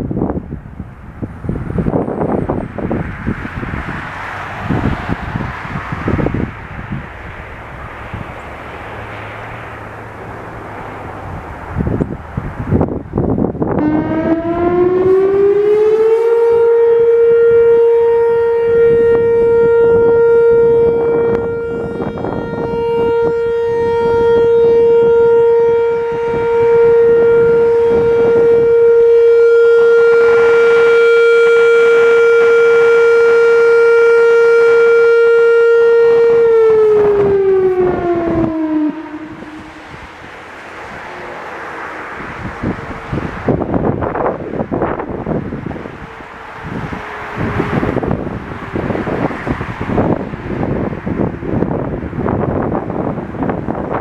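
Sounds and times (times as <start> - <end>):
outdoor warning siren: 0.0 - 54.0.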